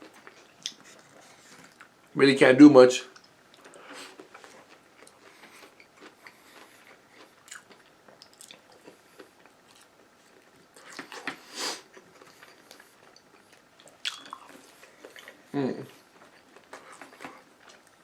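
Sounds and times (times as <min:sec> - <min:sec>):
person chewing food: 0:00.0 - 0:02.0, 0:03.2 - 0:18.0.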